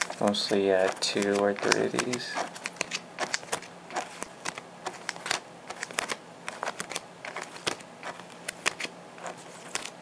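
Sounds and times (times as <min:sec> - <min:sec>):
sleeved cards flipping and rustling: 0:00.0 - 0:10.0.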